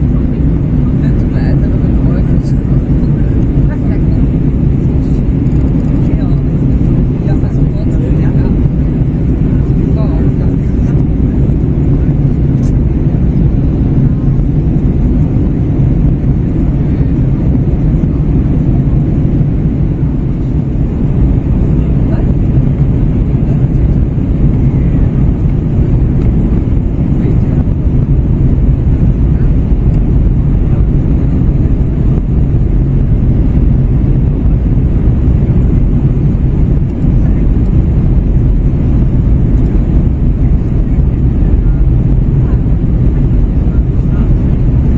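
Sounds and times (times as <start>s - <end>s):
airflow over fuselage: 0.0s - 44.9s
airplane cabin engine roar: 0.0s - 44.9s.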